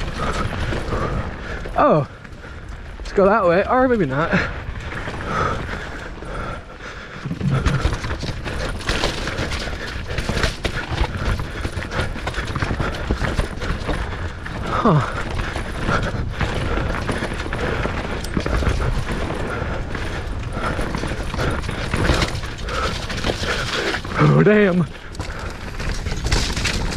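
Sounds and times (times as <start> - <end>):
bike rattling and knocking: 0.0 - 26.9
tyre and wind rumble: 0.0 - 26.9.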